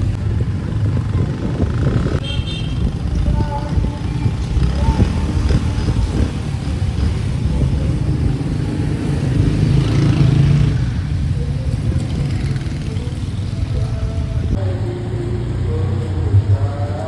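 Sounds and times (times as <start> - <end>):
motorcycle engine running: 0.0 - 16.7.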